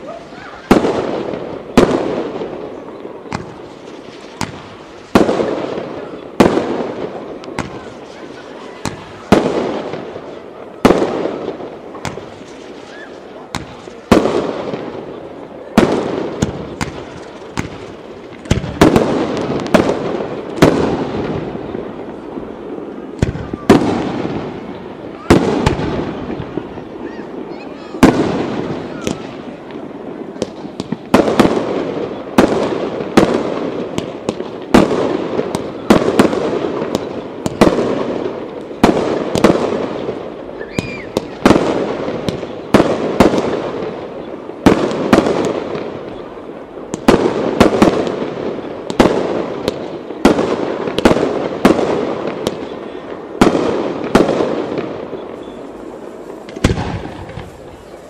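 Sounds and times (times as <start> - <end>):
firework bangs echoing: 0.0 - 58.0.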